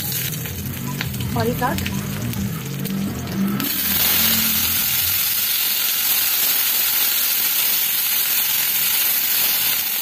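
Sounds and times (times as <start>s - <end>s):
leafy greens sizzling in oil: 0.0s - 10.0s.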